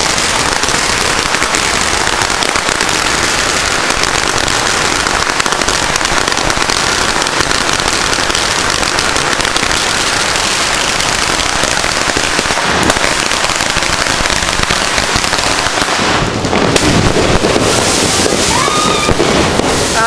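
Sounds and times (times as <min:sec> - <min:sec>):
firecrackers cracking: 0:00.0 - 0:20.0.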